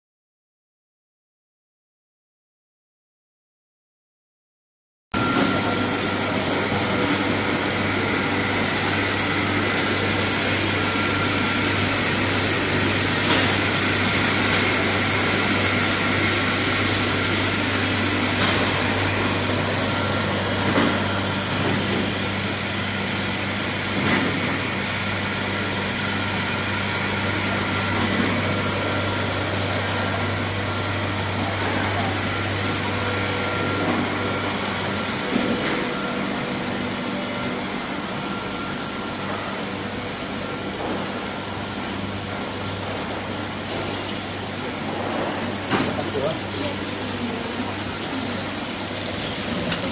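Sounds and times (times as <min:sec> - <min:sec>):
machinery low hum: 0:05.2 - 0:49.9.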